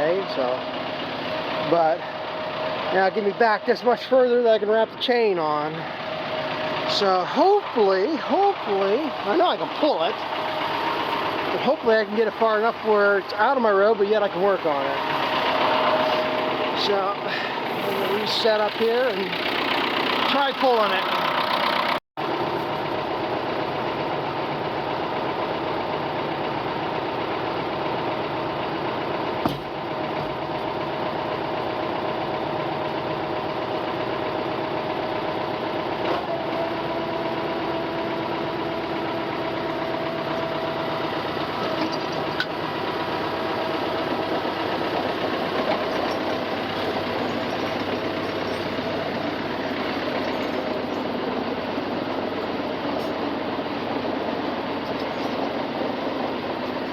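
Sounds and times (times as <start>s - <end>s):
tractor engine running under load: 0.0s - 56.9s.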